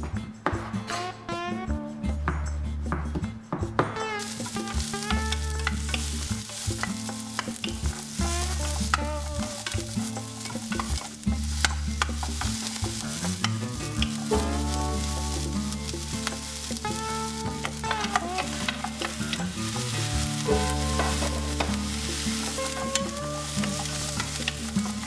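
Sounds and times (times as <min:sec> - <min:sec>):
onions sizzling in a frying pan: 0:04.1 - 0:25.0
wooden spatula scraping a pan: 0:04.2 - 0:25.0.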